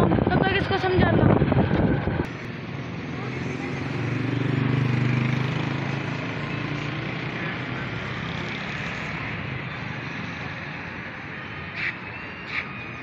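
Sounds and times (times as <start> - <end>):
street traffic noise: 0.0 - 13.0
vehicle engine hum: 0.0 - 13.0.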